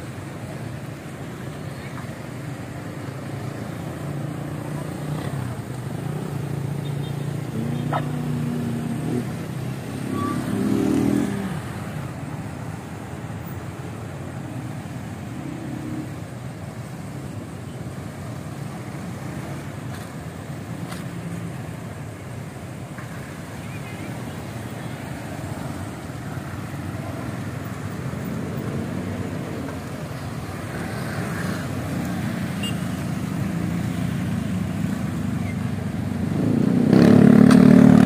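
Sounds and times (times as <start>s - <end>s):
cars driving past: 0.0s - 38.0s
traffic hum: 0.0s - 38.0s
motorcycles driving past: 0.6s - 17.3s, 18.2s - 38.0s.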